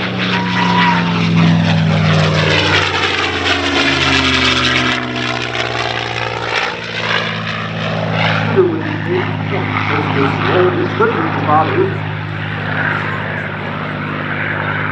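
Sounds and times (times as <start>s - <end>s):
aircraft engine flying past: 0.0s - 14.9s.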